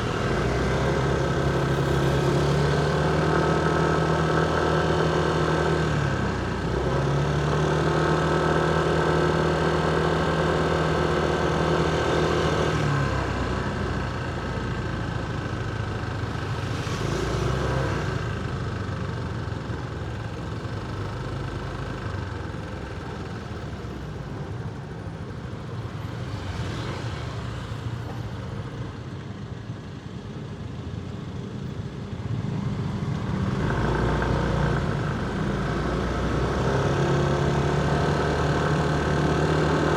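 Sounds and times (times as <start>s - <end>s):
street traffic noise: 0.0s - 39.9s
vehicles passing: 0.0s - 39.9s.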